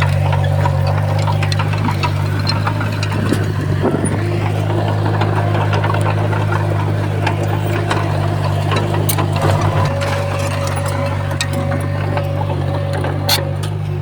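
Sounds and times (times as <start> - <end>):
bulldozer diesel engine running: 0.0 - 14.0
sharp clicks and clanks: 0.0 - 14.0.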